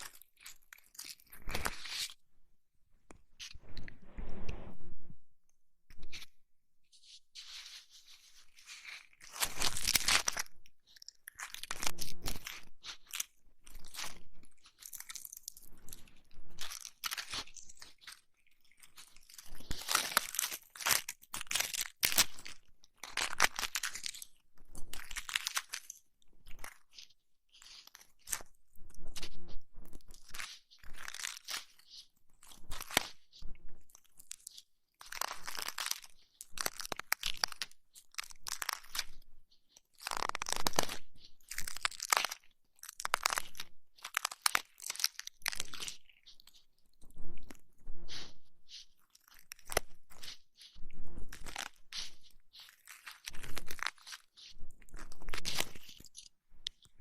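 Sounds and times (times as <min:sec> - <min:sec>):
close crunching and crackling: 0:00.0 - 0:02.2, 0:07.0 - 0:57.0.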